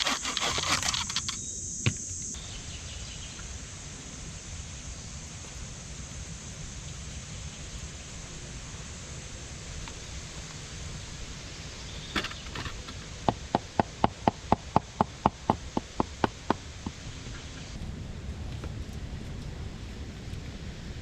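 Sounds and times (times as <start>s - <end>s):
noisy hiss: 0.0s - 21.0s.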